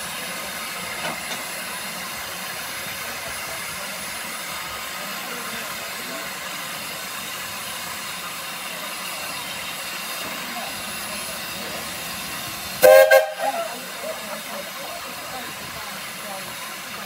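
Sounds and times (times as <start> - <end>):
steam hissing from locomotive: 0.0 - 17.0.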